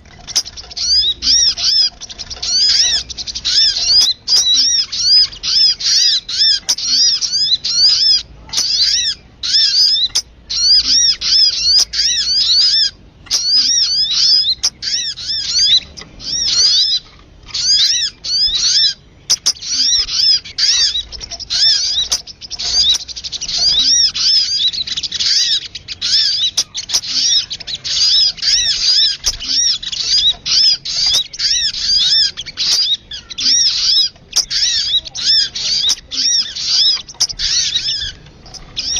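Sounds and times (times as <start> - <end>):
high rapid bird chirps: 0.0 - 38.9.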